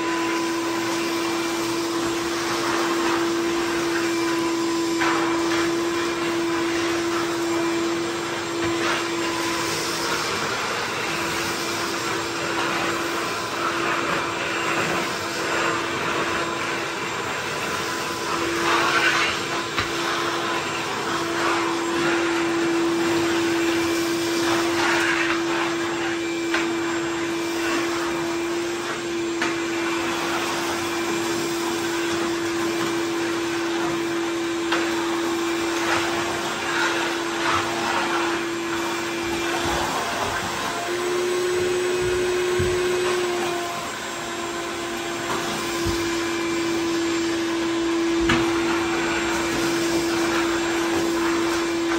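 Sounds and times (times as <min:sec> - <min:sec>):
air rushing through vacuum hose: 0:00.0 - 0:51.9
shop vacuum motor whine: 0:00.0 - 0:51.9.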